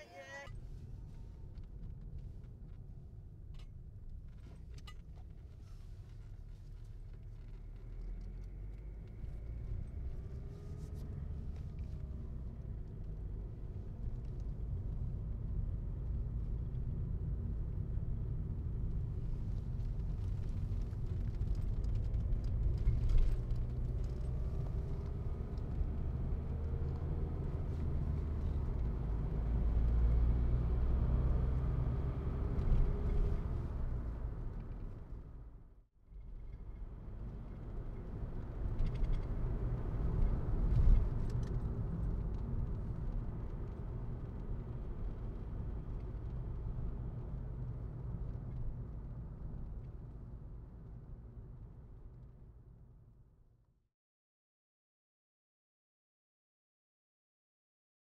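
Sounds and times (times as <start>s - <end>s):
car engine and road noise: 0.0s - 53.2s.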